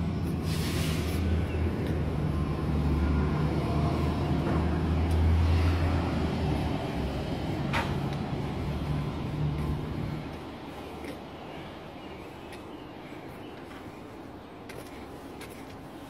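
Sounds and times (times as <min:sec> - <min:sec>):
low engine hum: 0:00.0 - 0:14.8.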